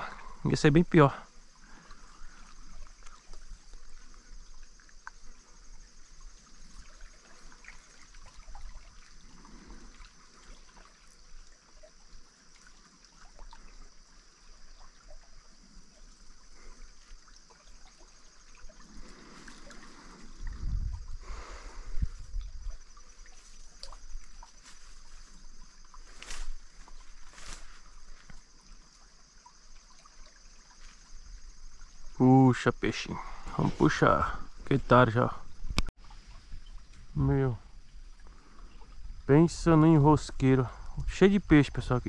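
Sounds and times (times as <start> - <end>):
creek water trickling: 0.0 - 42.0
high insect drone: 0.0 - 42.0.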